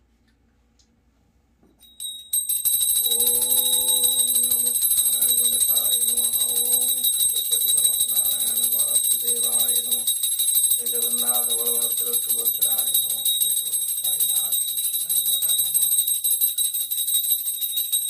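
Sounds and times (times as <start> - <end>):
hand bell ringing: 1.8 - 18.0.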